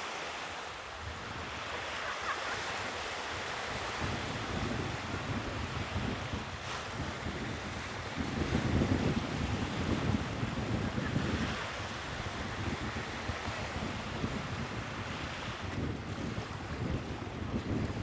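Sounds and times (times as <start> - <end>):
sea waves washing on shore: 0.0 - 18.0
wind buffeting microphone: 3.4 - 18.0.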